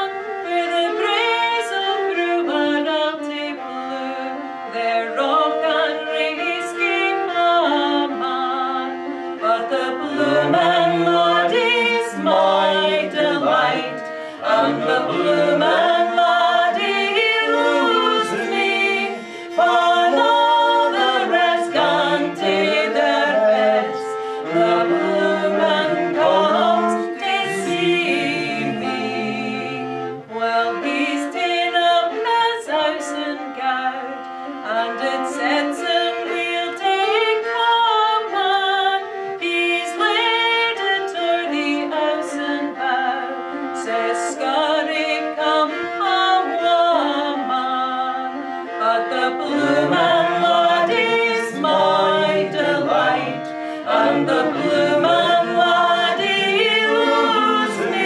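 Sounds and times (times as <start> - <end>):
bowed fiddle: 0.0 - 58.0
women singing in harmony: 0.0 - 58.0.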